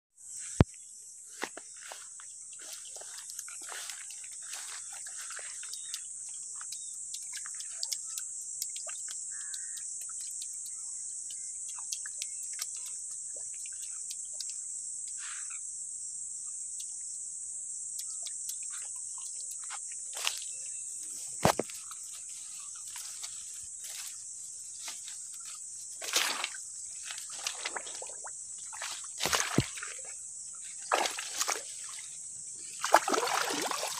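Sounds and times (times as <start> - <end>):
insects chirring: 0.2 - 33.9.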